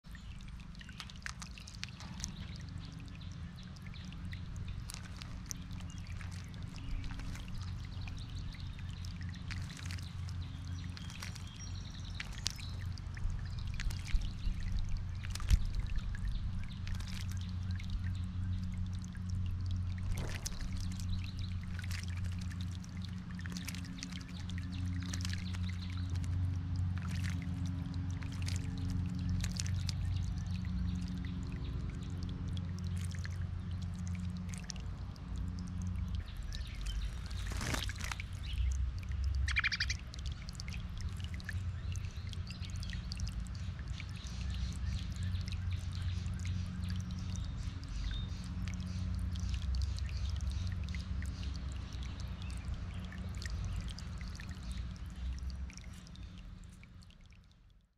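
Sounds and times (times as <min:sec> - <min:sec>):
bird splashing in water: 0:00.0 - 0:57.2
fountain trickling: 0:00.0 - 0:57.9
low steady hum: 0:00.0 - 0:57.9.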